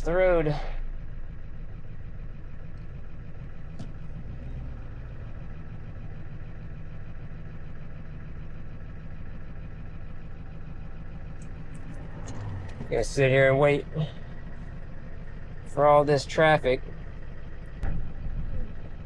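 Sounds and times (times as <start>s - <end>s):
truck engine low drone: 0.0s - 19.0s.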